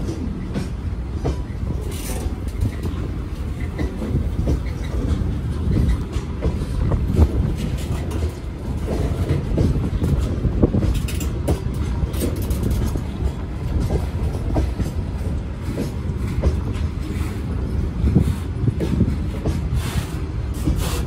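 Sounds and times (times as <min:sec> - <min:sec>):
train clanks and clicks: 0:00.0 - 0:21.0
train wheels rumbling on rails: 0:00.0 - 0:21.0.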